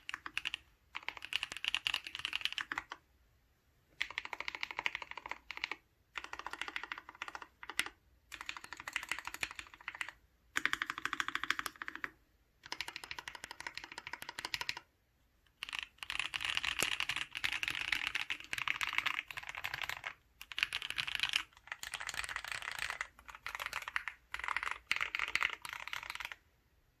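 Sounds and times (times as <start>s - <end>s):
mechanical keyboard typing: 0.0s - 3.0s, 3.9s - 14.9s, 15.5s - 26.4s.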